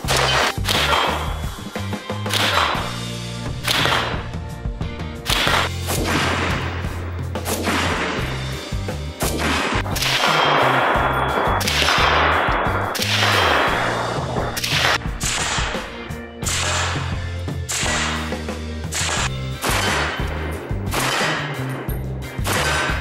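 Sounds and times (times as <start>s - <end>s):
rifle shots: 0.0s - 1.5s, 2.3s - 3.0s, 3.6s - 4.3s, 5.2s - 23.0s
background music with bass line: 0.0s - 23.0s.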